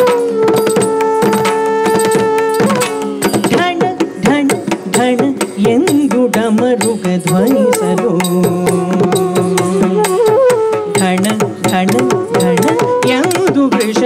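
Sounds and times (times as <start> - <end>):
hand drum strokes: 0.0 - 14.0
person singing ornamented melody: 0.0 - 14.0.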